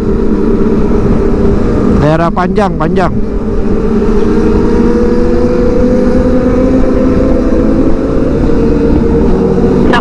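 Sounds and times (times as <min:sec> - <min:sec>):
motorcycle engine running: 0:00.0 - 0:10.0
wind noise: 0:00.0 - 0:10.0.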